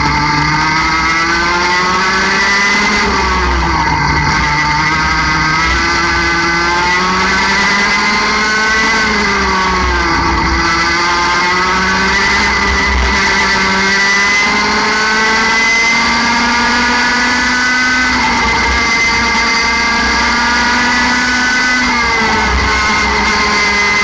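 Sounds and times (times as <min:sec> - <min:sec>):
two-stroke kart engine revving: 0:00.0 - 0:24.0.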